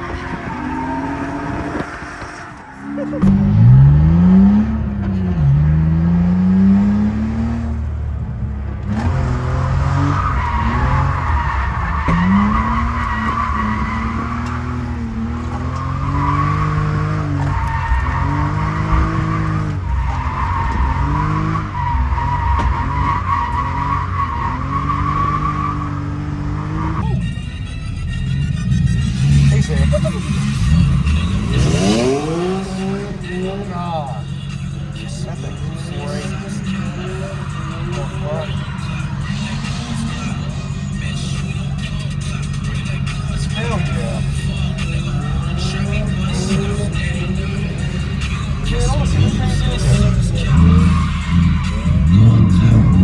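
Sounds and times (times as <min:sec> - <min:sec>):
car engine revving: 0:00.0 - 0:53.0
tyres squealing: 0:00.0 - 0:53.0.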